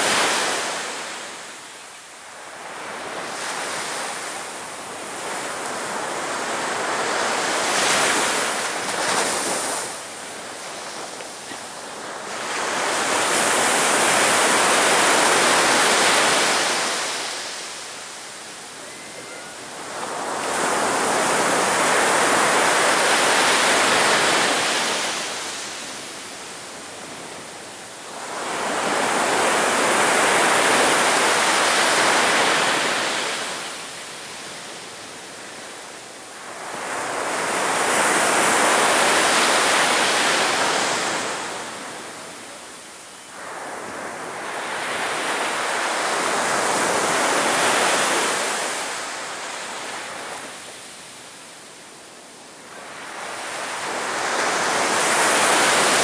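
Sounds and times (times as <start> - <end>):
sea waves breaking on beach: 2.2 - 18.5, 19.5 - 51.2, 52.6 - 56.0.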